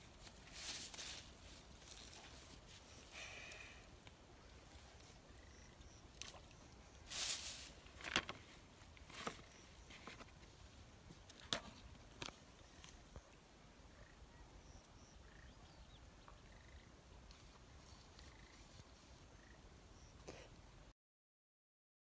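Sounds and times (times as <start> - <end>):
rustle: 0.0 - 20.9.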